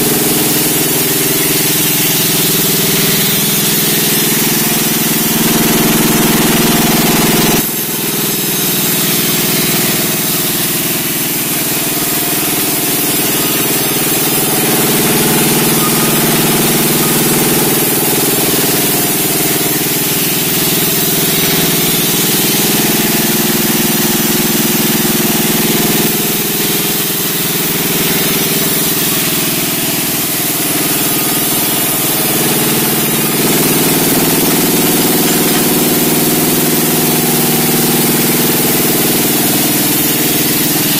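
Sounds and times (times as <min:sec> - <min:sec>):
sawmill engine and saw running: 0:00.0 - 0:40.9.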